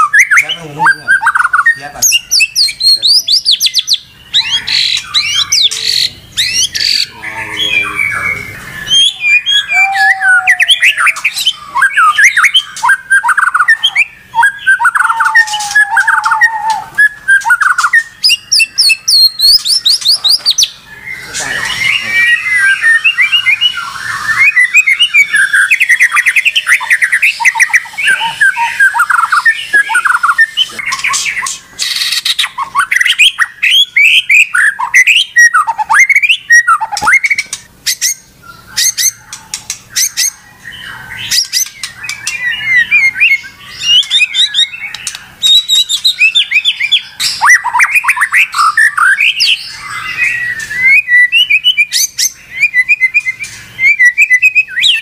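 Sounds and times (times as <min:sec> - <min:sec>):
bird singing whistled phrases: 0:00.0 - 0:55.0.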